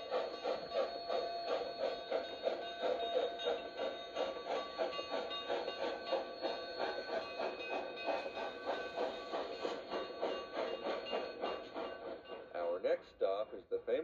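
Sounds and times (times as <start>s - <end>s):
faint steady tones: 0.0s - 14.0s
steam train running: 0.0s - 14.0s.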